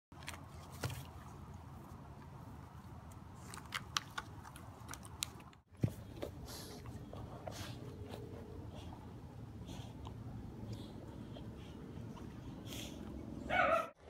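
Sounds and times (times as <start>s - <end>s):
dog chewing a stick: 0.2s - 13.3s.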